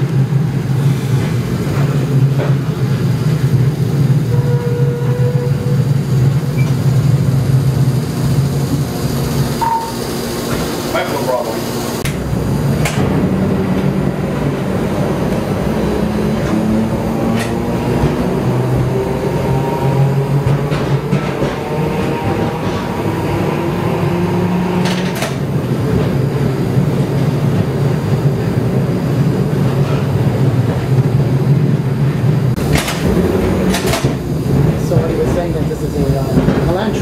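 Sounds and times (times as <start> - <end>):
streetcar wheels rumbling on rails: 0.0 - 37.0.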